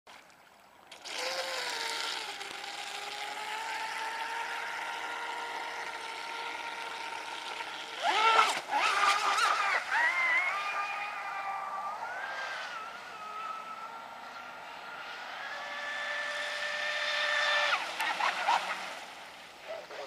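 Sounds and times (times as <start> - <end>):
electric motor whine: 1.0 - 19.0.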